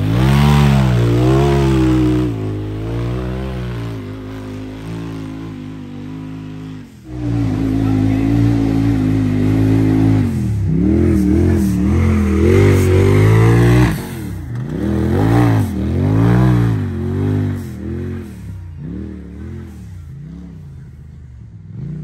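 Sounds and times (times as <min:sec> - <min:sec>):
engine revving hard: 0:00.0 - 0:20.8.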